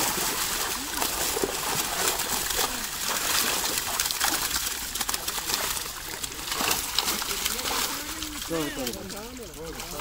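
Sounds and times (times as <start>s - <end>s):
fish thrashing in water: 0.0s - 10.0s
water splashing and sloshing: 0.0s - 10.0s.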